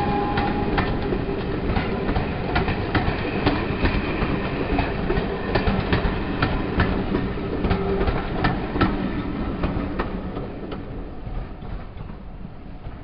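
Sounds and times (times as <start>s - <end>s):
train rumble: 0.0s - 13.0s
wheels clicking over rail joints: 0.0s - 13.0s.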